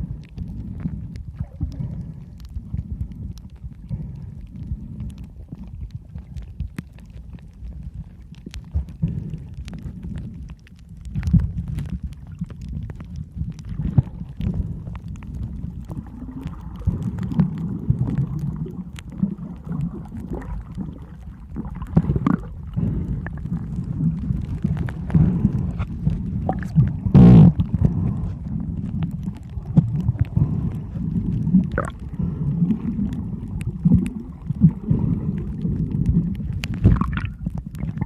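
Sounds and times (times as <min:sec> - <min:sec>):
low rumble: 0:00.0 - 0:38.0
water sloshing and gurgling: 0:00.0 - 0:38.0.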